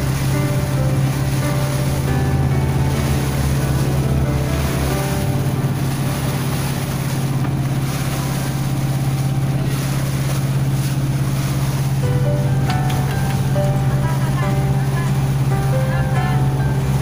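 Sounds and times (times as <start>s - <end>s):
boat engine humming: 0.0s - 17.0s
water hissing: 0.0s - 17.0s
wind: 0.0s - 17.0s.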